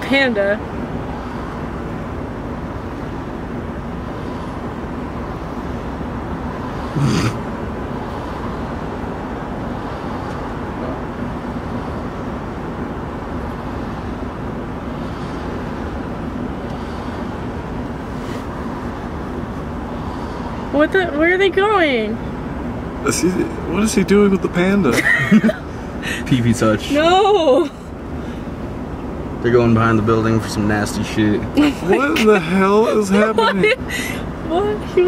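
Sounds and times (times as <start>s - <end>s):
road noise rush: 0.0s - 35.0s
van engine hum: 0.0s - 35.0s.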